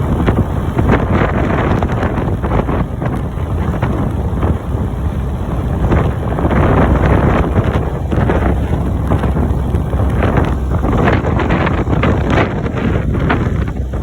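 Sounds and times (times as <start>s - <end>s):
tractor engine running: 0.0s - 14.0s
wind buffeting microphone: 0.0s - 14.0s.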